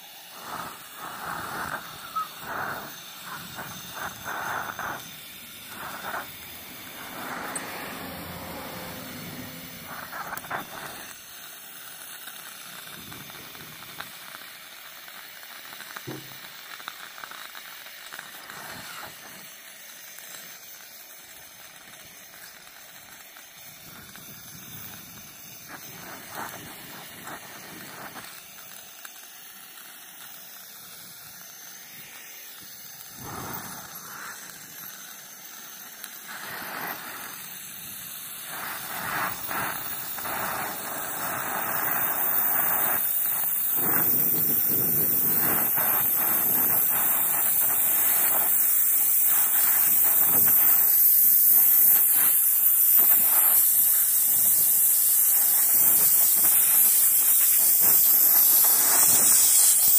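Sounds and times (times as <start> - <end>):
gas burner flame hissing: 0.0 - 59.9.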